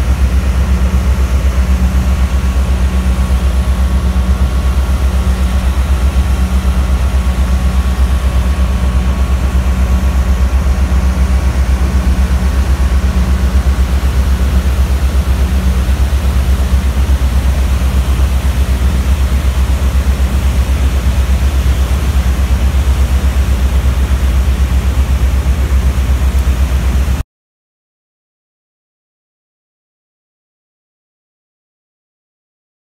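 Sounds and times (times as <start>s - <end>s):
diesel machinery droning: 0.0s - 27.2s.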